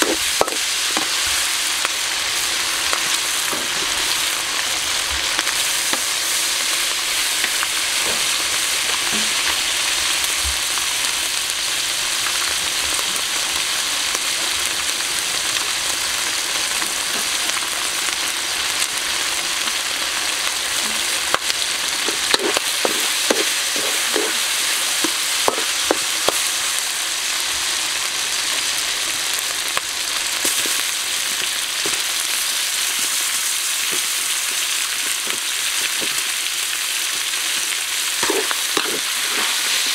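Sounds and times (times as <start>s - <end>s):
pork sizzling in a wok: 0.0s - 39.9s.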